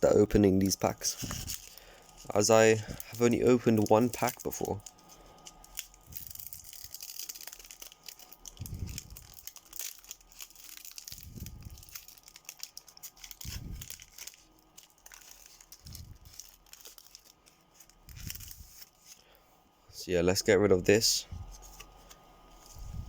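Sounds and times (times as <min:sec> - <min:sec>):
foil wrapper crinkling and tearing: 0:00.1 - 0:19.4.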